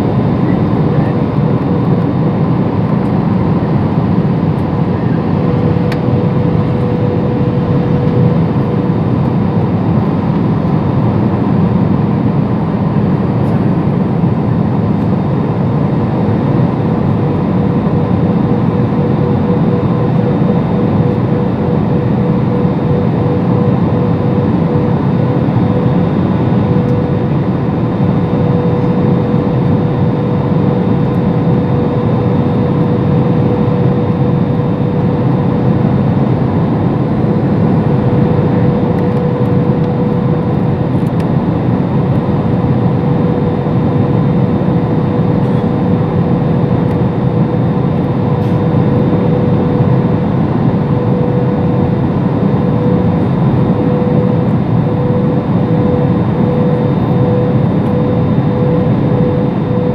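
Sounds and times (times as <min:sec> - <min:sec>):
airliner cabin engine noise: 0:00.0 - 0:59.9
steady whine: 0:00.0 - 0:59.9.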